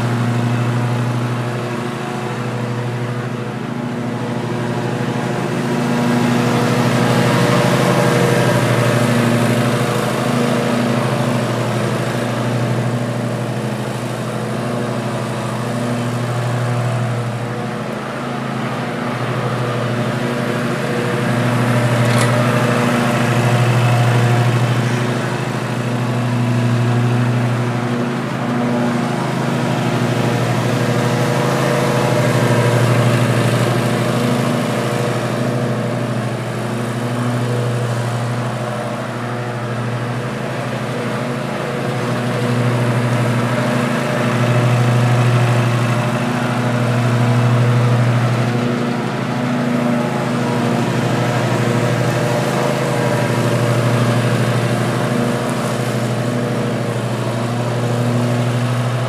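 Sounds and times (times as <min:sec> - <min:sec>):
riding mower engine and blades: 0:00.0 - 0:59.0.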